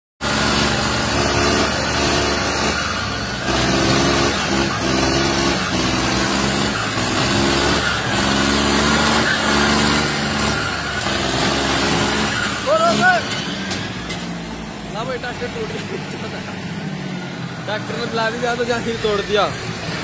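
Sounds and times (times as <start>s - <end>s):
tractor diesel engine under load: 0.2s - 20.0s.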